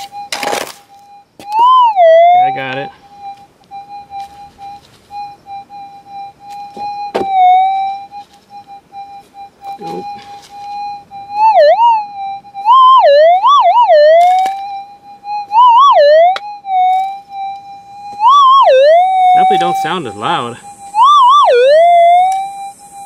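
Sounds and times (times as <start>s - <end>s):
metal detector threshold hum: 0.0s - 23.0s
warbling detector signals: 0.0s - 23.0s.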